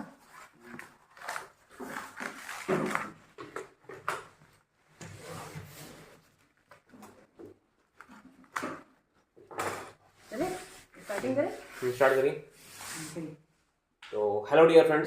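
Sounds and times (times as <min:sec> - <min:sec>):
objects knocking and rubbing: 0:00.0 - 0:12.1.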